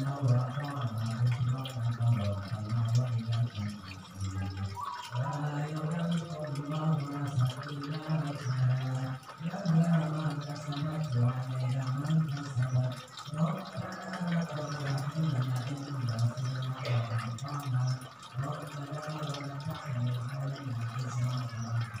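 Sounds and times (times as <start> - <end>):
water gurgling into a bowl: 0.0 - 22.0.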